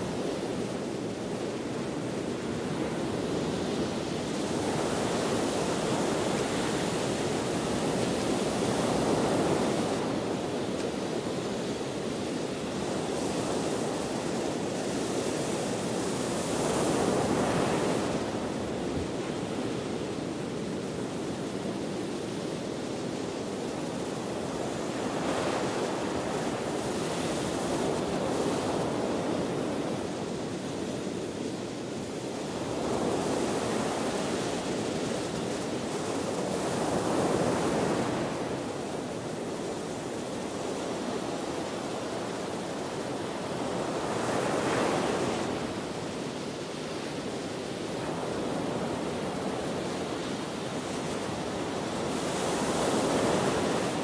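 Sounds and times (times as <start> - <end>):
ocean waves breaking on shore: 0.0 - 54.0
wind: 0.0 - 54.0.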